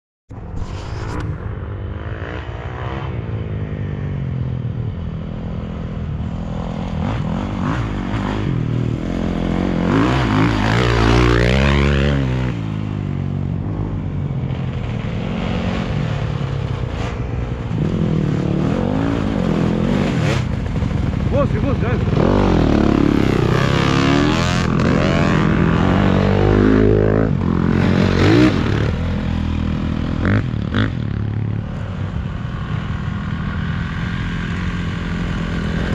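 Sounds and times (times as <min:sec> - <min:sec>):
motorcycle passing by revving: 0:01.8 - 0:35.9
dirt bike engines running: 0:02.0 - 0:35.9.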